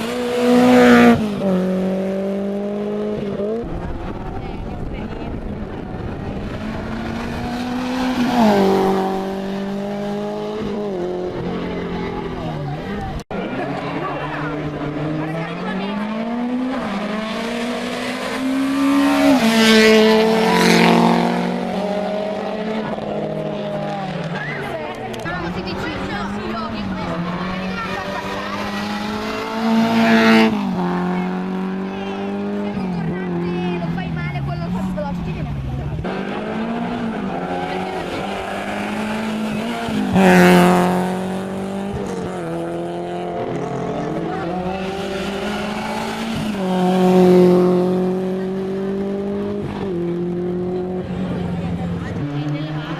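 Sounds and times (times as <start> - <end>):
rally car engine accelerating: 0.0 - 52.9.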